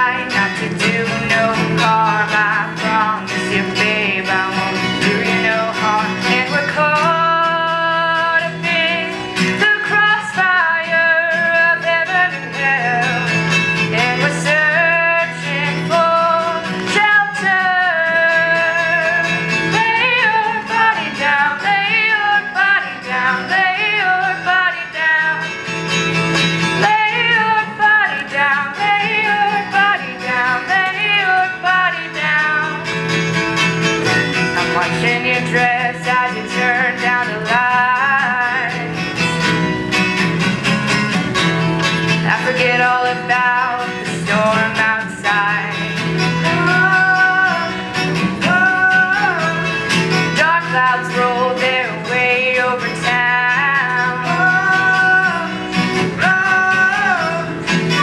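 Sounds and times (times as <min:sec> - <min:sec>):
woman singing: 0:00.0 - 0:39.7, 0:41.9 - 0:58.0
acoustic guitar chords: 0:00.0 - 0:58.0.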